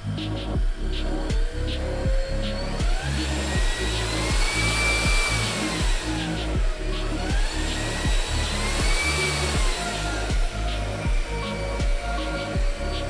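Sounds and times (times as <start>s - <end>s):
background music with steady beat: 0.0s - 13.0s
vacuum cleaner running: 0.0s - 13.0s.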